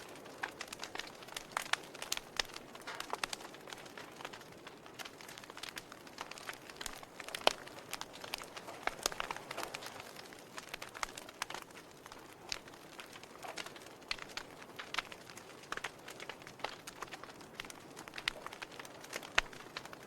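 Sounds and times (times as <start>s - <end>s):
logs crackling in fireplace: 0.0s - 20.0s
soft hiss of flame: 0.0s - 20.0s.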